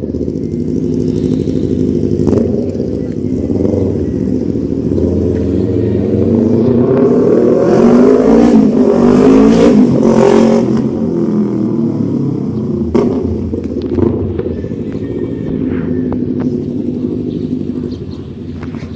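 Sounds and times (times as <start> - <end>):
motorcycle accelerating: 0.0 - 18.9.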